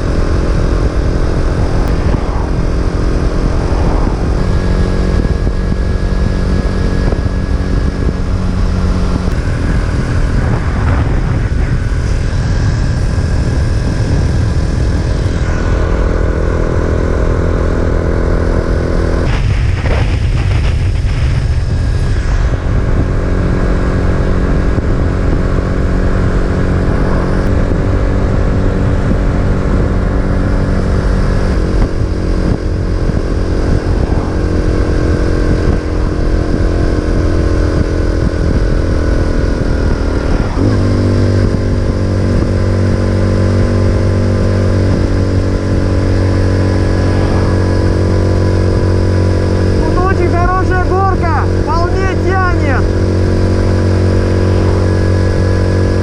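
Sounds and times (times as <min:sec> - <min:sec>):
moped engine running: 0:00.0 - 0:56.0
wind on microphone: 0:00.0 - 0:56.0.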